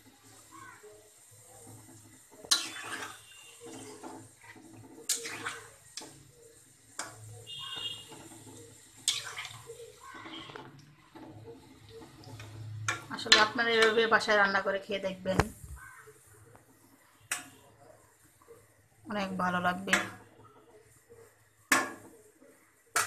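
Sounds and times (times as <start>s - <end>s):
spatula stirring curry in pot: 0.0s - 14.4s, 15.8s - 23.0s.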